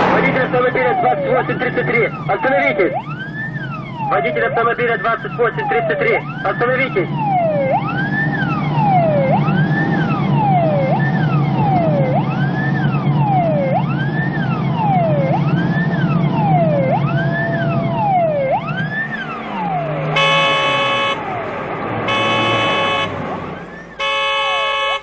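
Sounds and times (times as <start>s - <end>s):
car engine droning: 0.0s - 4.4s, 7.1s - 25.0s
police siren wailing: 0.0s - 25.0s.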